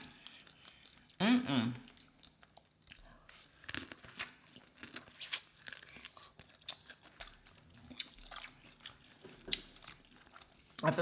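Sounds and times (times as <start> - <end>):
food being chewed: 0.0 - 1.2, 1.8 - 11.0.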